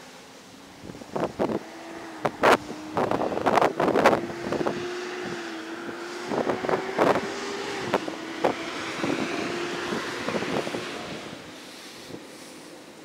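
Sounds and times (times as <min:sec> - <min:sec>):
wind buffeting microphone: 0:00.7 - 0:12.4.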